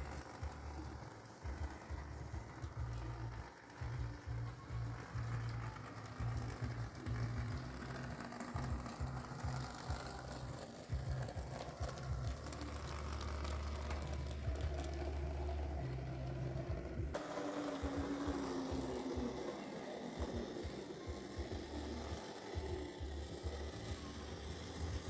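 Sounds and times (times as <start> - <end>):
background music: 0.0 - 25.0
model train motor whirring: 0.0 - 25.0
wheels clicking on track: 0.0 - 25.0.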